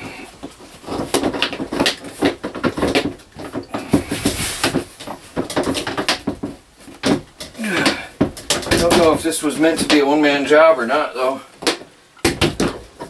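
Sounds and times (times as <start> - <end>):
plastic panels knocking and rattling: 0.0 - 10.2, 11.6 - 13.0.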